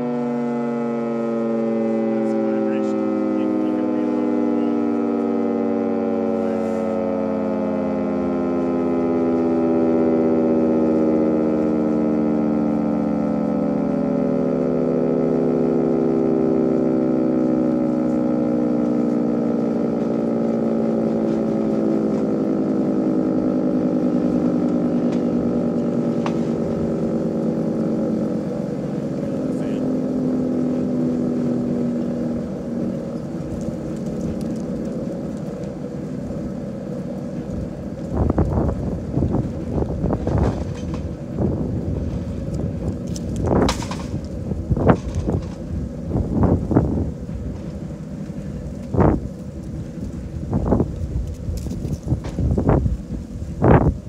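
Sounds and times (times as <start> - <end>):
three-tone warning siren: 0.0 - 54.0.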